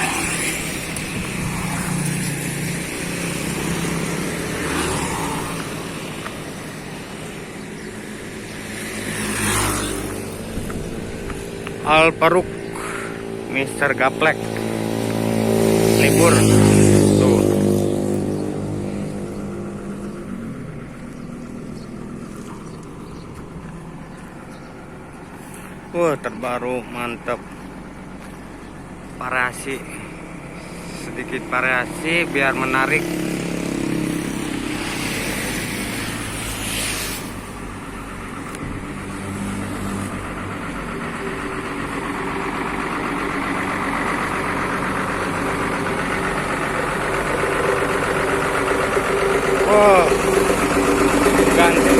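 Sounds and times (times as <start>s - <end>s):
bus engine running: 0.0s - 51.9s.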